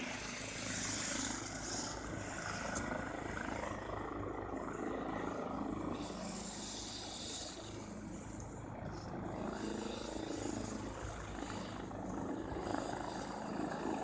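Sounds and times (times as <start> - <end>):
distant helicopter drone: 0.0 - 14.0.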